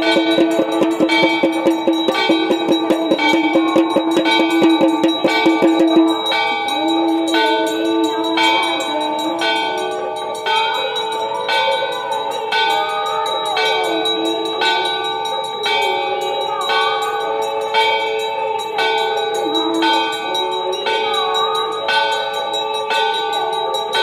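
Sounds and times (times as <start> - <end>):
temple bells ringing: 0.0 - 24.0.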